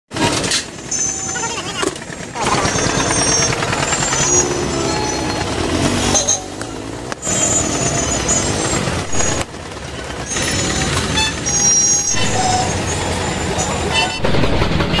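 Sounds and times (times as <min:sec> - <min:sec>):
road traffic rumble: 0:00.1 - 0:15.0.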